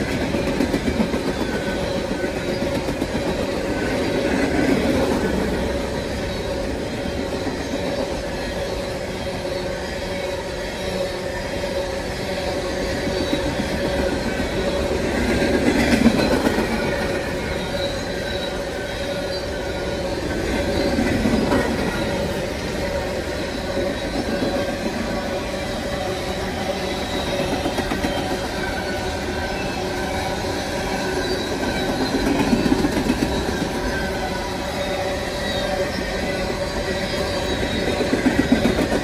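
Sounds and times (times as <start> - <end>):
train wheels rumbling on rail: 0.0 - 39.0
wheel squeal: 0.0 - 39.0.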